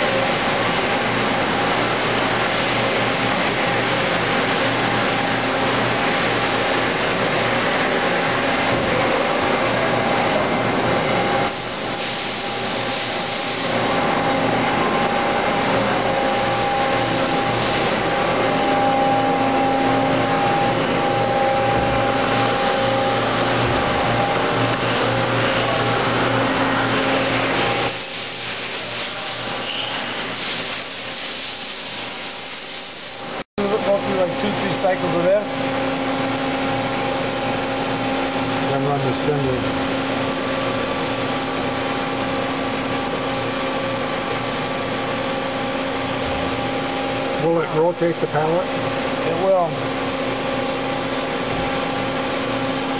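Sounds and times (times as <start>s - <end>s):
shop machinery hum and hiss: 0.0s - 52.9s.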